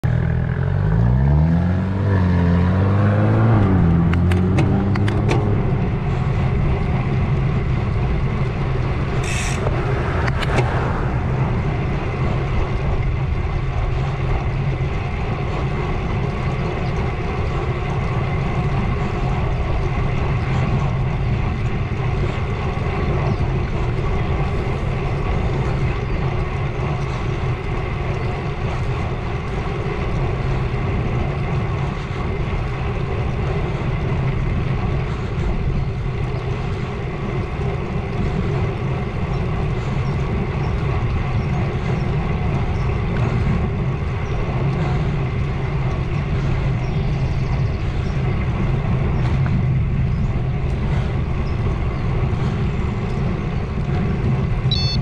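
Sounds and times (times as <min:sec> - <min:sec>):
bicycle tyre and wind noise: 0:00.0 - 0:55.0
vehicle engine accelerating: 0:00.0 - 0:55.0.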